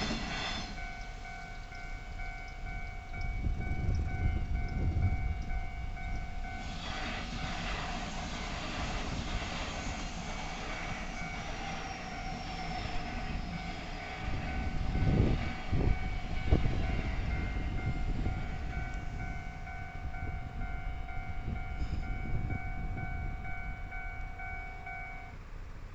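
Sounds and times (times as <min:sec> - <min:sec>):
crossing warning bell dinging: 0:00.0 - 0:07.7, 0:08.9 - 0:25.9
train rumbling past: 0:00.0 - 0:25.9.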